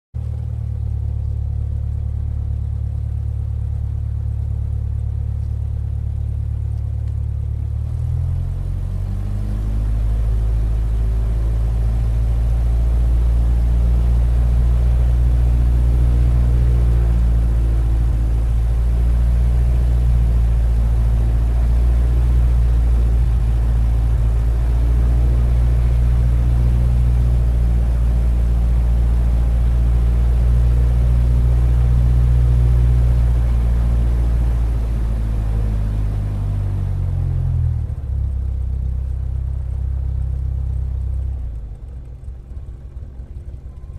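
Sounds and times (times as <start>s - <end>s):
propeller plane engine: 0.2s - 43.9s.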